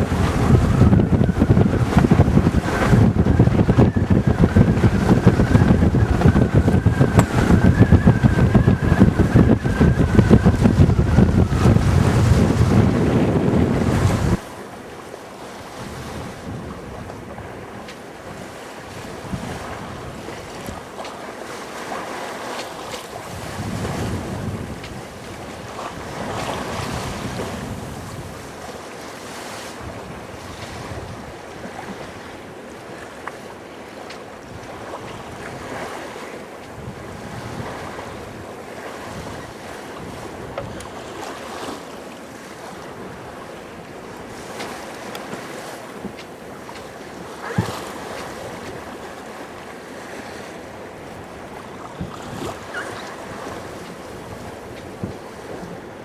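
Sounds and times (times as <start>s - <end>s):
wind buffeting microphone: 0.0s - 14.7s, 15.5s - 56.0s
water washing against hull: 0.0s - 56.0s.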